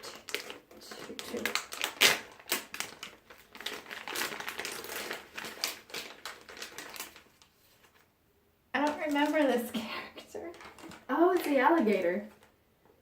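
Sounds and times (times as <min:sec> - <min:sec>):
packaging crinkling and tearing: 0:00.0 - 0:08.0, 0:08.8 - 0:09.7, 0:10.4 - 0:12.5.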